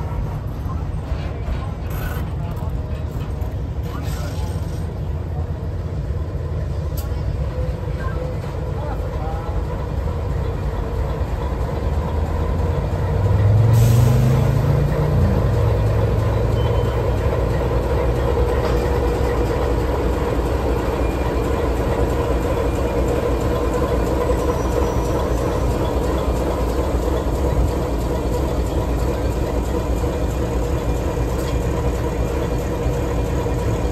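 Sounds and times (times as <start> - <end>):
diesel locomotive engine: 0.0 - 33.9
train carriages rumbling: 0.0 - 33.9.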